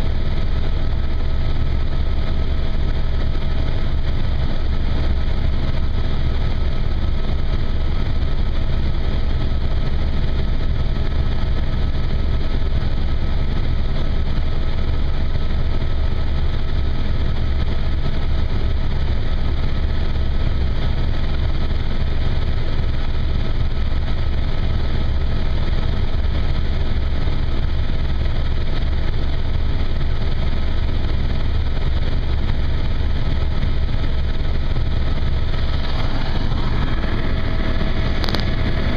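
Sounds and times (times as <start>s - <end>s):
helicopter engine and rotor noise: 0.0s - 38.9s.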